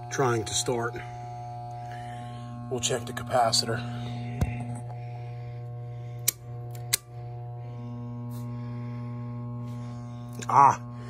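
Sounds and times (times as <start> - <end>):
blower motor humming: 0.0 - 11.0.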